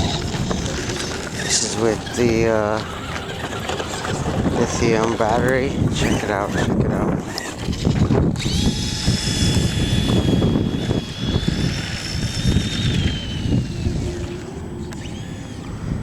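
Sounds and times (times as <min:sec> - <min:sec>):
electric motor whine: 0:00.0 - 0:16.0
wind noise on microphone: 0:00.0 - 0:16.0.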